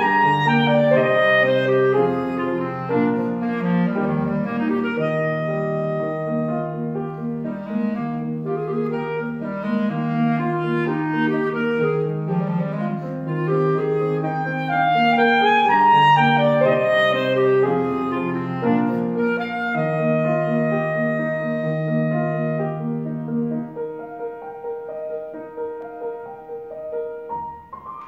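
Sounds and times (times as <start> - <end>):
clarinet melody: 0.0 - 28.0
piano accompaniment: 0.0 - 28.0.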